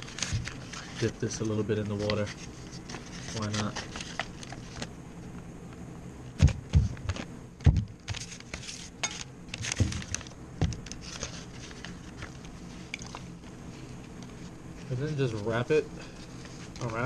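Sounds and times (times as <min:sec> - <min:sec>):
handling noises: 0:00.0 - 0:17.0.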